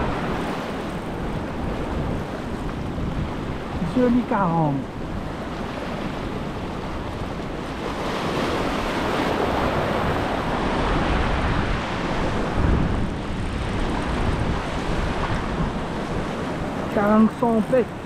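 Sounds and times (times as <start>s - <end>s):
surf washing over rocks: 0.0s - 18.0s.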